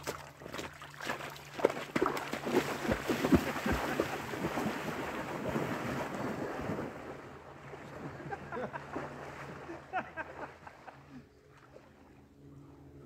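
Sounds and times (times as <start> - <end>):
legs splashing through water: 0.0 - 12.3.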